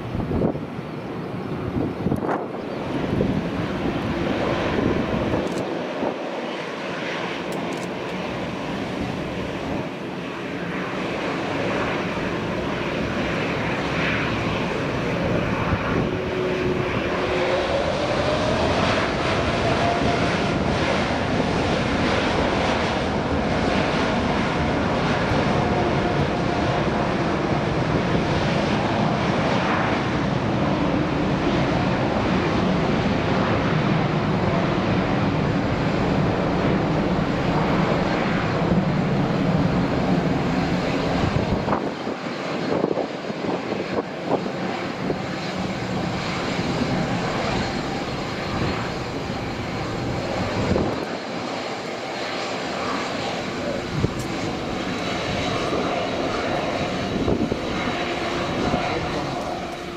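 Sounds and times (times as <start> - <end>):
jet engines spooling up: 0.1 - 59.9.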